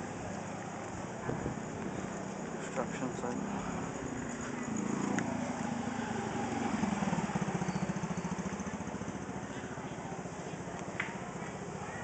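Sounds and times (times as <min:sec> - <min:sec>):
small engine chugging: 0:00.3 - 0:12.0.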